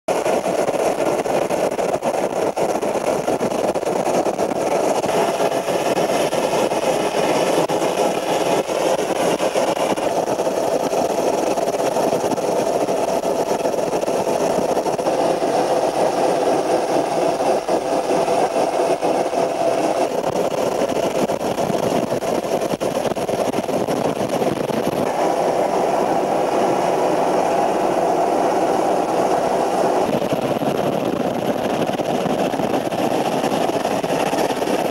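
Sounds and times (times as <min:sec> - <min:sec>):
helicopter engine and rotor drone: 0:00.1 - 0:34.9.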